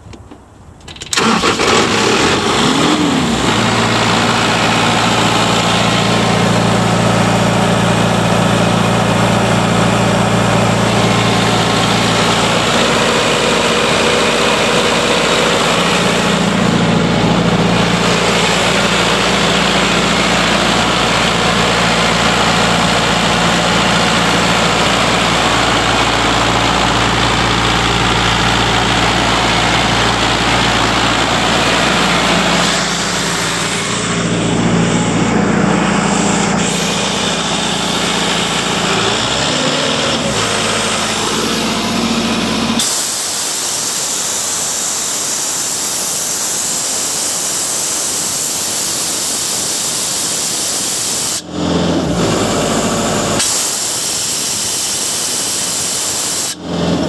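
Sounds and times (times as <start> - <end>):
air compressor diesel engine running: 0.0 - 57.0.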